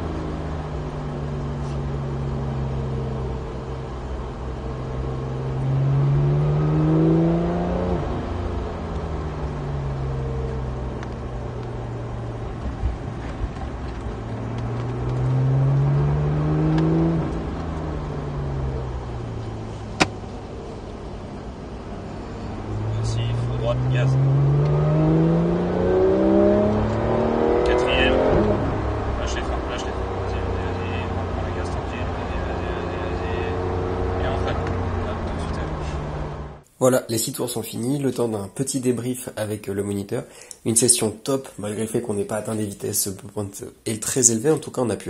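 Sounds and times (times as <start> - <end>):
car engine accelerating: 0.0 - 36.7
low road rumble: 0.0 - 45.0.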